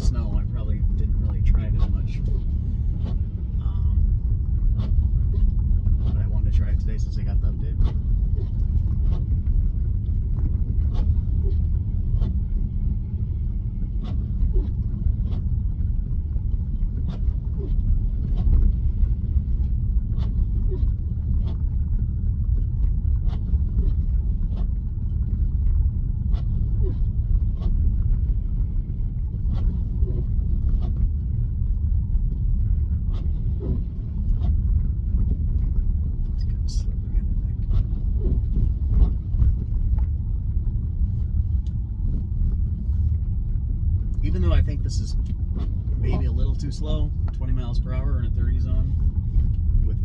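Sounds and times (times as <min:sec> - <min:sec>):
tyres rumbling on snowy road: 0:00.0 - 0:50.0.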